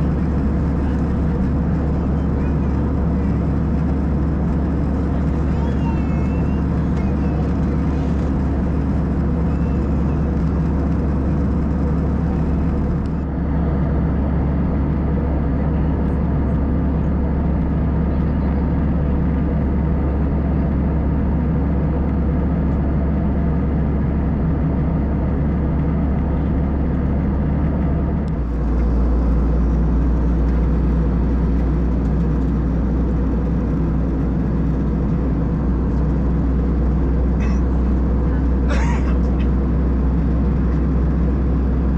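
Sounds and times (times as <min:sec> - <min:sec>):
airplane engines droning in cabin: 0:00.0 - 0:41.9.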